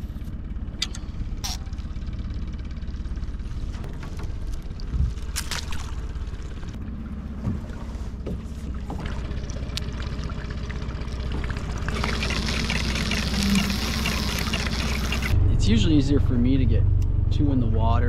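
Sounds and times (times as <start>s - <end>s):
outboard motor humming: 0.0s - 15.4s.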